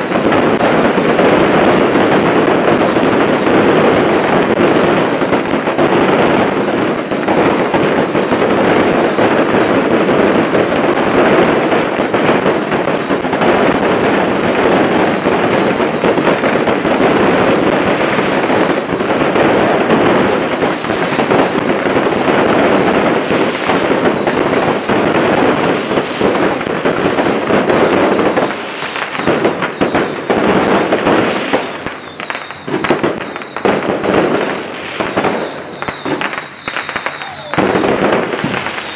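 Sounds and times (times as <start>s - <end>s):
firework bangs and pops: 0.0s - 38.9s
fireworks crackling: 0.0s - 38.9s.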